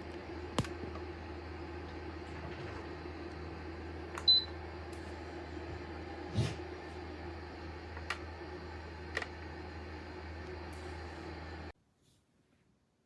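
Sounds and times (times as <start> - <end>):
heater fan humming: 0.0 - 11.8.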